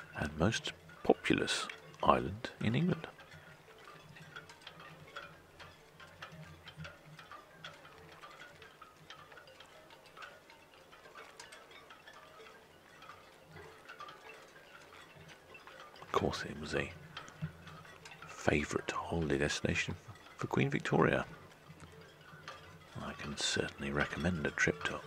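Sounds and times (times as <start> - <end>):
soft irregular ticks and clicks: 0.0 - 25.0.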